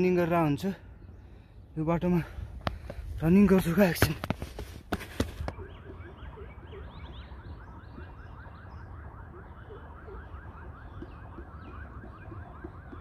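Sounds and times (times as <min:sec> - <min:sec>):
birds chirping rapidly: 0:00.0 - 0:03.8, 0:05.4 - 0:12.9.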